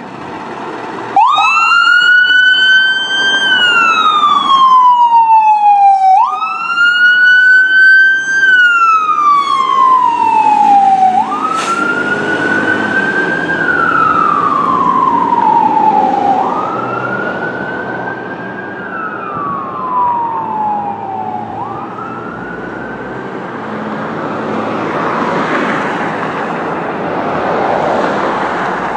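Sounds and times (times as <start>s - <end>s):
road traffic noise: 0.0s - 28.9s
fire engine siren wailing: 0.9s - 28.9s.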